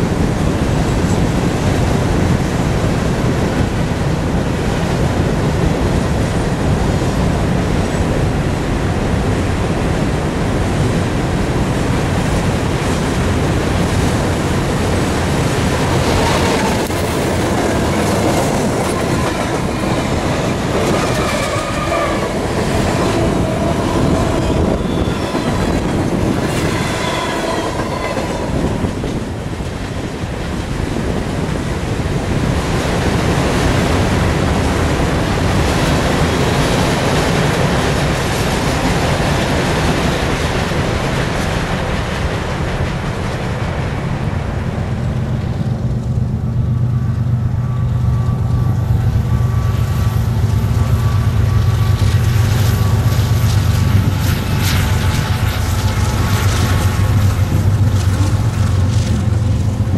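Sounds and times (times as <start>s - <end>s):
diesel locomotive engine drone: 0.0s - 59.9s
train wheels clattering on rails: 0.0s - 59.9s.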